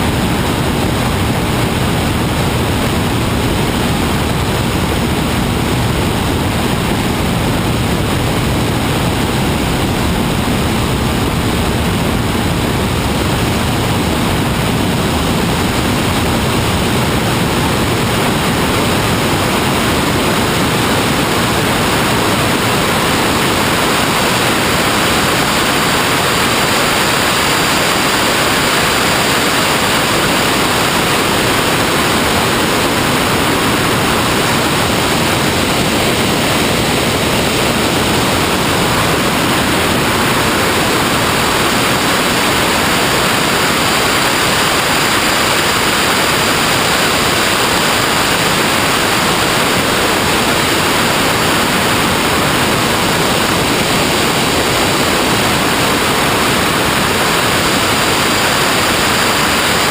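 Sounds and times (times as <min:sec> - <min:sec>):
loud steady hiss: 0:00.0 - 0:59.9.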